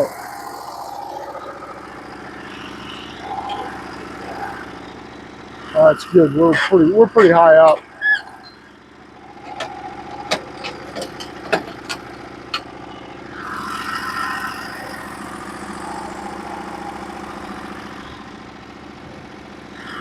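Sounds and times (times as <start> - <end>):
small gas engine idling: 0.0 - 20.0.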